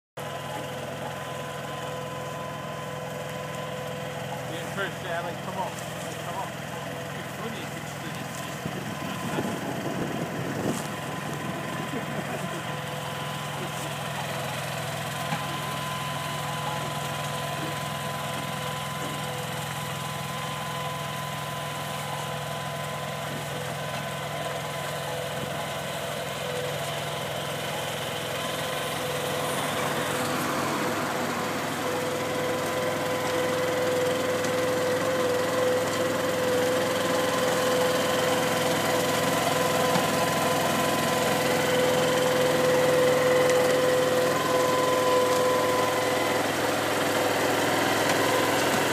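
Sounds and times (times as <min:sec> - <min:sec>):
machine engine running: 0:00.2 - 0:48.9.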